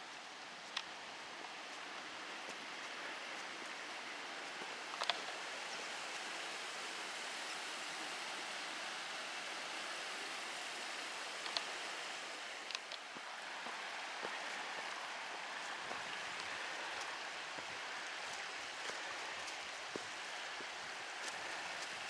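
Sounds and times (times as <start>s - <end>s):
stream babbling over stones: 0.0s - 22.0s.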